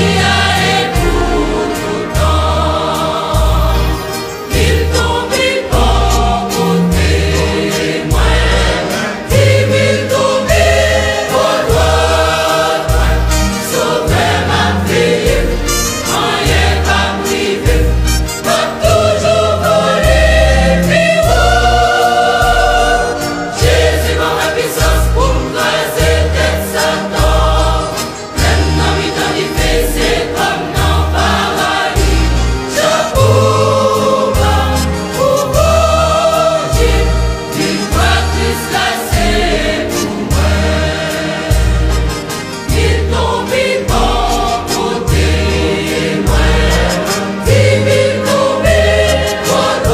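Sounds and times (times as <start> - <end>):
choir singing gospel song: 0.0 - 49.9.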